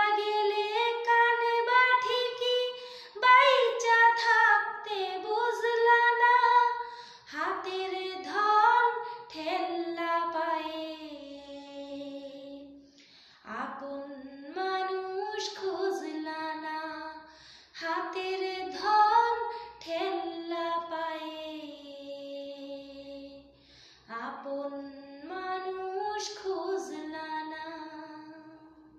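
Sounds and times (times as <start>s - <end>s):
woman singing unaccompanied: 0.0s - 12.8s, 13.5s - 23.5s, 24.1s - 28.9s.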